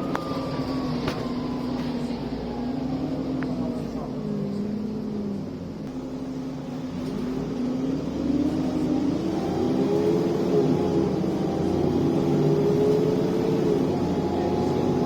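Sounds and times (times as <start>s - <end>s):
bus engine with turbo whine: 0.0s - 15.0s.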